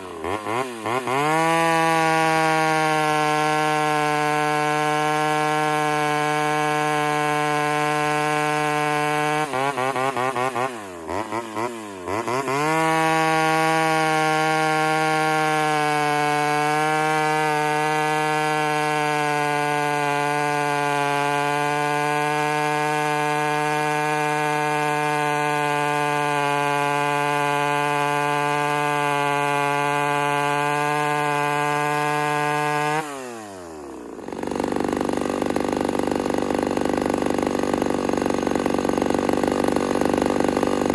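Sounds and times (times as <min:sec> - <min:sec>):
chainsaw at high revs: 0:00.0 - 0:40.9.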